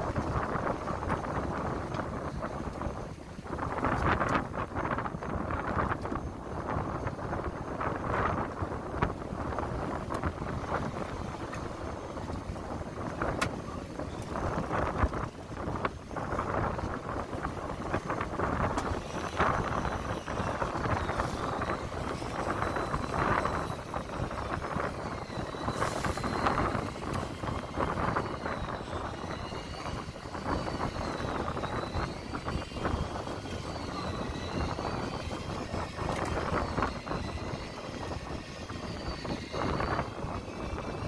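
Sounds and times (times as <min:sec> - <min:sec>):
boat engine drone: 0:00.0 - 0:41.0
faint high wavering whine: 0:00.0 - 0:41.0
rough sea: 0:00.0 - 0:41.0
wind: 0:00.0 - 0:41.0.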